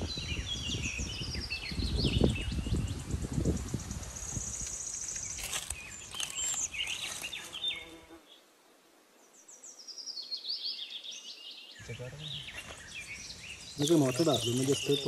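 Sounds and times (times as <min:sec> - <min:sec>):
birds chirping: 0:00.0 - 0:08.4, 0:09.2 - 0:15.0.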